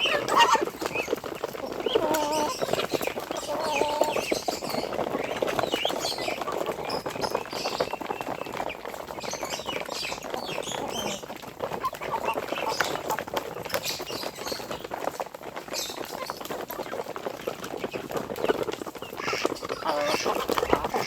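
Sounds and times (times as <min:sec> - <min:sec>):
poultry chirping and peeping: 0:00.0 - 0:21.0.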